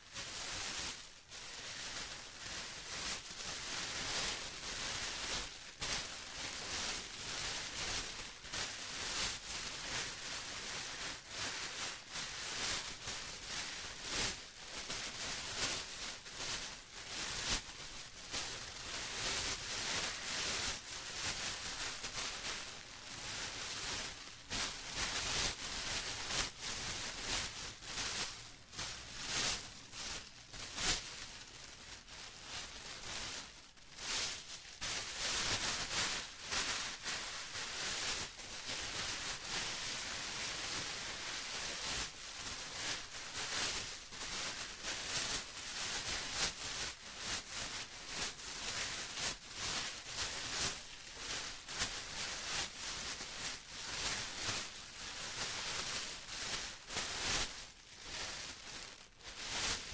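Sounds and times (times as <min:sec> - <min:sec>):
plastic crumpling: 0:00.1 - 0:59.9.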